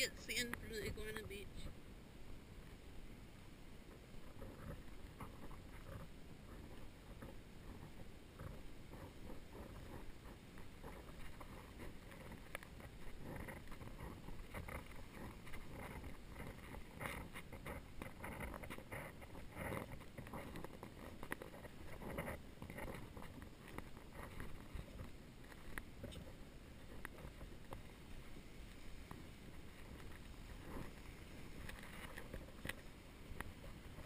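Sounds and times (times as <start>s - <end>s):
low steady hiss: 0.0s - 34.0s.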